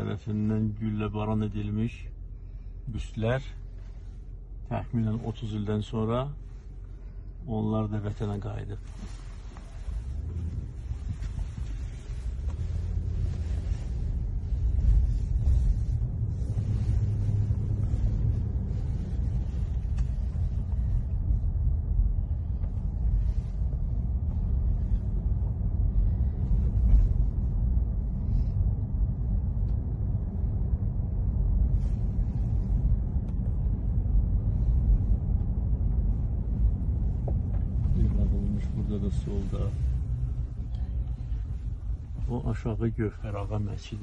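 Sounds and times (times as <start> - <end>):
car engine and tyre noise: 0.0 - 44.0.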